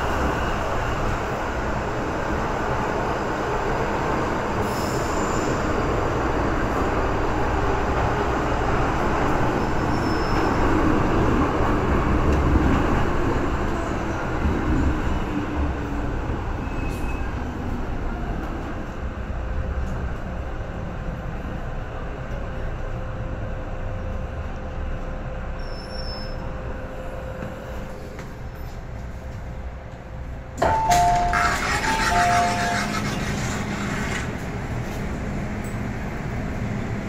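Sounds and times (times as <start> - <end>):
train wheels roaring on rail: 0.0 - 37.0.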